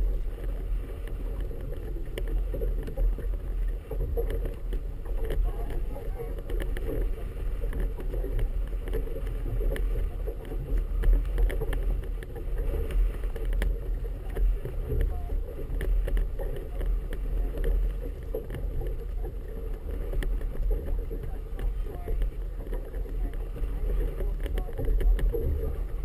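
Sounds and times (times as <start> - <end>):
waves lapping against hull: 0.0 - 26.0
wind buffeting camera: 0.0 - 26.0.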